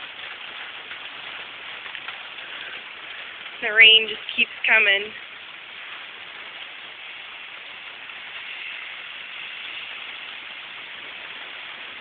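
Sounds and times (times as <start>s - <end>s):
heavy rain pouring on street: 0.0s - 12.0s.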